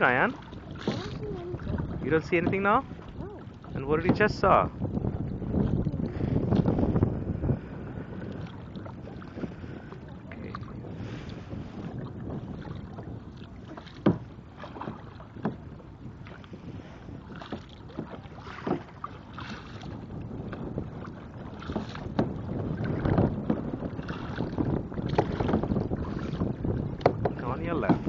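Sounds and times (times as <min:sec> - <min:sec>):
paddle strokes splashing: 0:00.0 - 0:28.0
wind buffeting microphone: 0:00.0 - 0:28.0.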